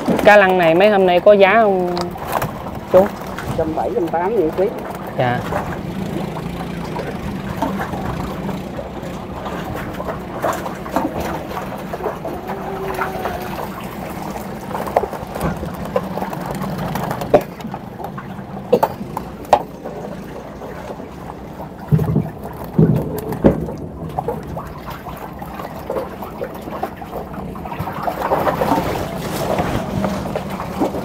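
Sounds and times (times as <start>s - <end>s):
boat engine idling: 0.0s - 31.0s
water sloshing: 0.0s - 31.0s.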